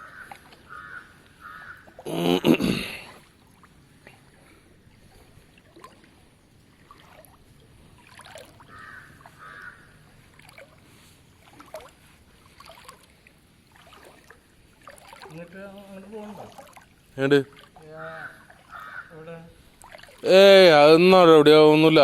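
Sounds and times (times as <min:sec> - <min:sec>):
floodwater sloshing and splashing: 0:00.0 - 0:22.0.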